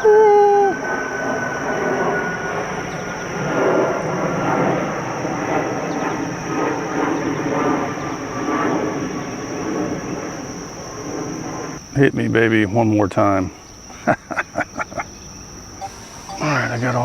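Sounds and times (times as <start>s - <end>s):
drone propellers buzzing: 0.0s - 11.9s, 14.8s - 17.0s
high-pitched insect whine: 0.0s - 17.0s.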